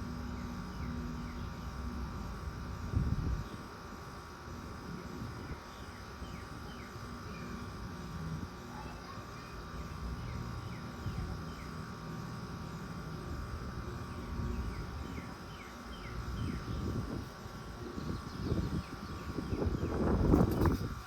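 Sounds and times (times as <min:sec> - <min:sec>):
air conditioner unit humming: 0:00.0 - 0:21.0
faint steady whine: 0:00.0 - 0:21.0.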